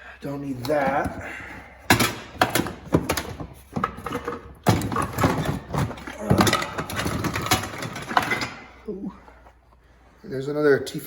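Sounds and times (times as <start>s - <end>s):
car parts clattering: 0.2s - 9.6s.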